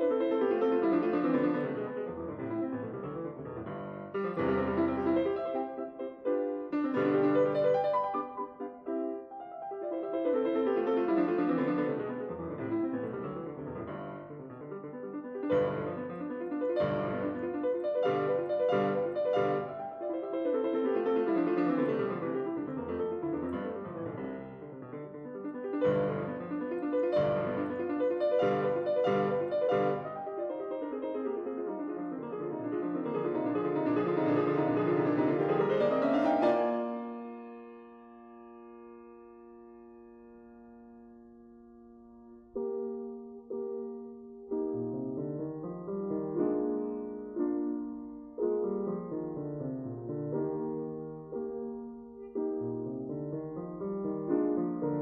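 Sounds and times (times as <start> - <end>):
solo piano music: 0.0 - 55.0.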